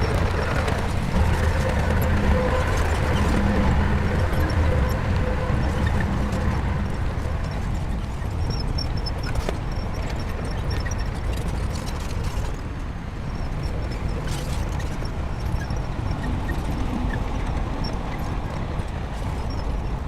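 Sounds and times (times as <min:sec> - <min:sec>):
bulldozer diesel engine running: 0:00.0 - 0:20.0
steel tracks clanking: 0:00.0 - 0:20.0.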